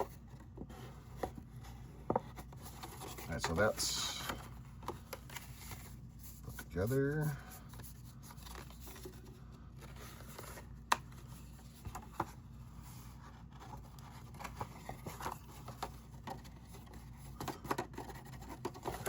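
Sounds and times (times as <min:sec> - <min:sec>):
paper rustling: 0:00.0 - 0:19.0.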